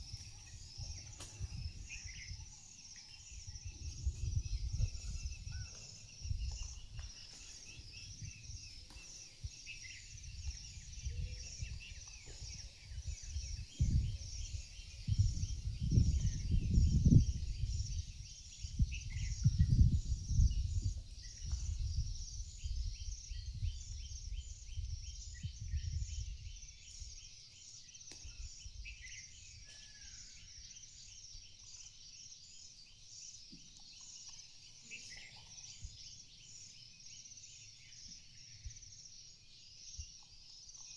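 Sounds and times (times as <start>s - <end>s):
birds and insects chirping: 0.0s - 40.9s.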